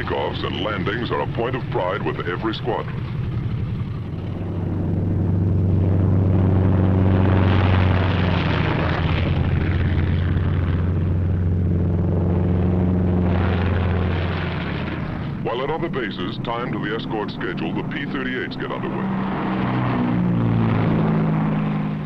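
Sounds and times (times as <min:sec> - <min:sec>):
aircraft piston engines droning: 0:00.0 - 0:22.0.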